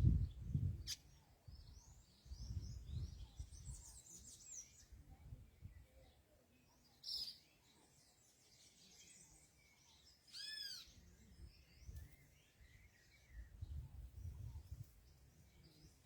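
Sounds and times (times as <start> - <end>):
bird chirp: 0.0 - 16.0.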